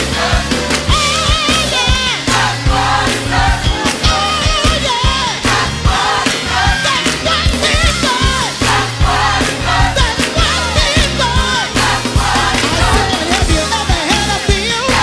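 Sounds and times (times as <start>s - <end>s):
band with drum beat and bass: 0.0s - 15.0s.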